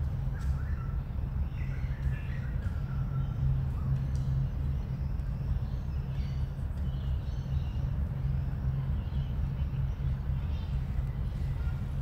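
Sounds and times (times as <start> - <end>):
distant city traffic rumble: 0.0 - 12.0
faint bird chirps: 0.0 - 12.0.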